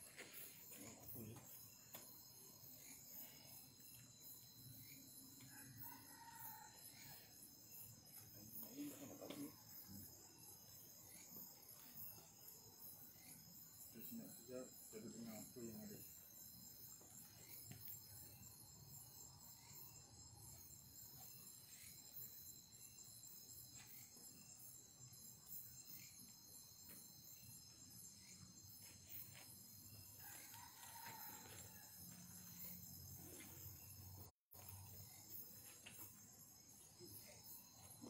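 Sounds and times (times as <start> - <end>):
crickets and night insects chirping: 0.0 - 38.0.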